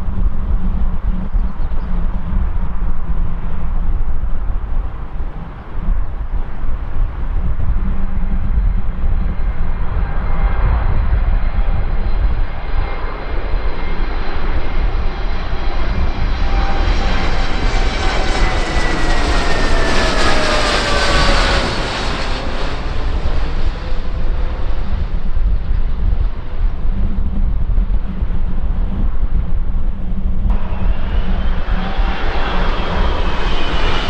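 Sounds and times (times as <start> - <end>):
passenger aircraft engines passing: 0.0 - 34.0
steady low rumble: 0.0 - 34.0.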